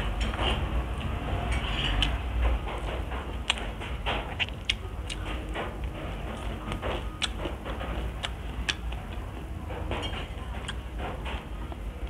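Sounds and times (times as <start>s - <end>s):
chewing with mouth clicks: 2.0s - 11.9s.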